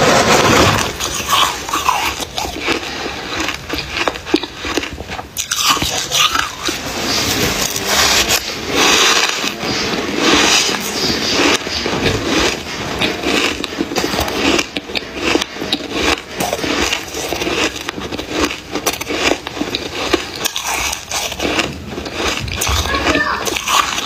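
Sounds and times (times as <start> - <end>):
chewing frost crunching: 0.0 - 24.0
metal spoon scraping frost: 0.0 - 24.0.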